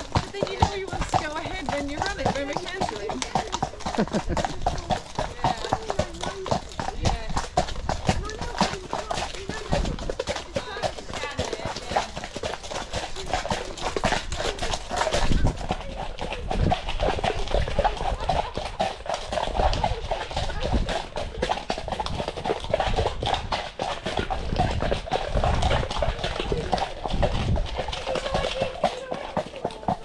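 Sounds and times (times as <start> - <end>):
horse hoofbeats on muddy track: 0.0 - 30.0.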